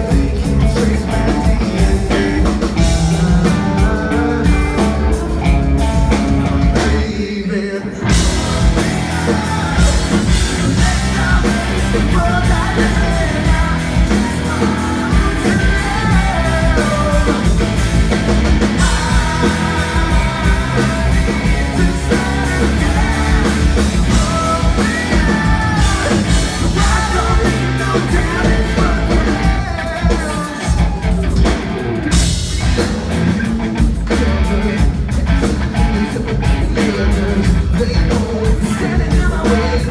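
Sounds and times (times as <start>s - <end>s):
person singing: 0.0s - 33.0s, 33.8s - 39.9s
live rock band playing: 0.0s - 39.9s.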